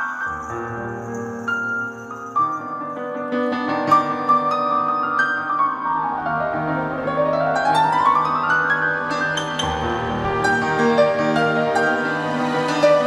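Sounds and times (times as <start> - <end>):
slow piano worship music: 0.0 - 13.0.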